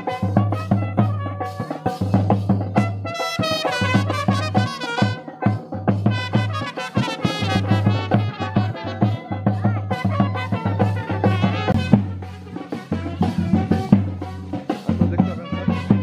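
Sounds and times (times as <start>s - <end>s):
steady drumbeat: 0.0s - 16.0s
trumpets playing a melody: 0.0s - 16.0s.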